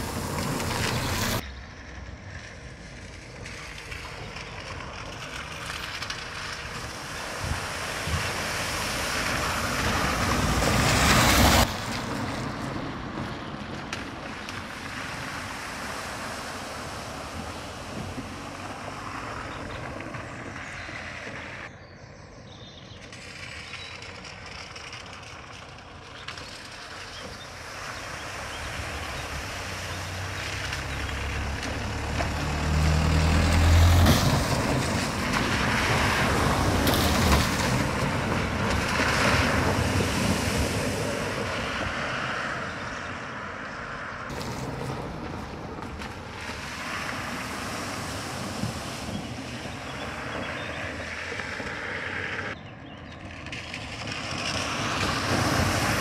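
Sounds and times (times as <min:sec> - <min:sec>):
vehicle engine: 0:00.0 - 0:56.0.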